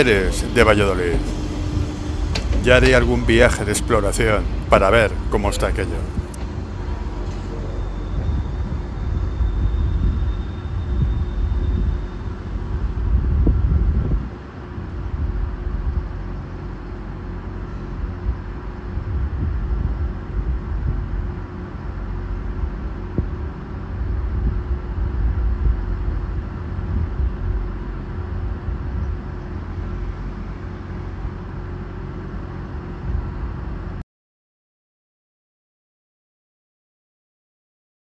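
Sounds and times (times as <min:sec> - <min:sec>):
electric train rumbling: 0:00.0 - 0:34.0.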